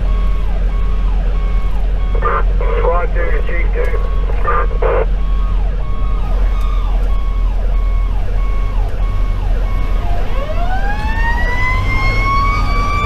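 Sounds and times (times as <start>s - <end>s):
diesel truck engine drone: 0.0s - 13.0s
electronic siren: 0.0s - 13.0s.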